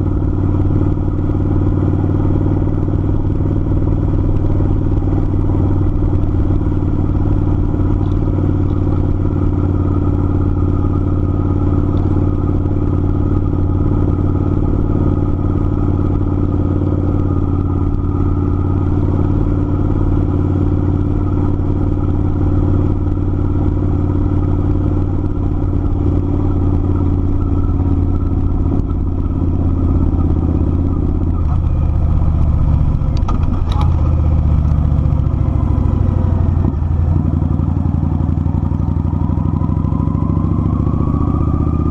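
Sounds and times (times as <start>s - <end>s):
motorcycle engine cruising: 0.0s - 41.9s.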